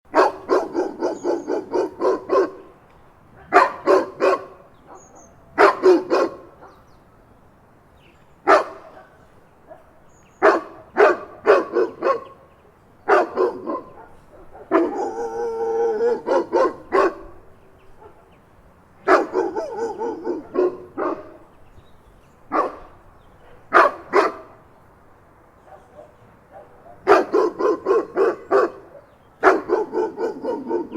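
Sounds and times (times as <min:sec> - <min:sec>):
big dog barking: 0:00.1 - 0:06.9, 0:08.4 - 0:18.3, 0:19.0 - 0:21.5, 0:22.5 - 0:24.6, 0:25.6 - 0:30.9.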